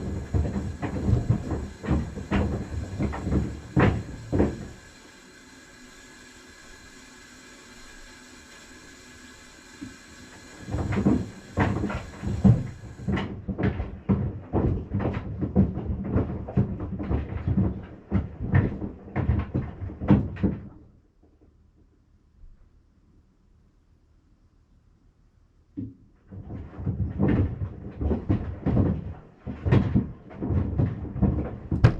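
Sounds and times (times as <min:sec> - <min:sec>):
washing machine hum: 0:00.0 - 0:20.8, 0:26.2 - 0:31.9.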